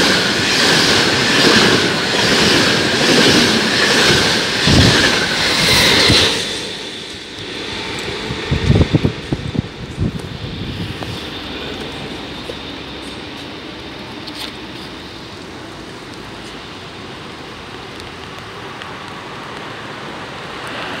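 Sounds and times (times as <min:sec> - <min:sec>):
passenger train rumbling: 0:00.0 - 0:21.0.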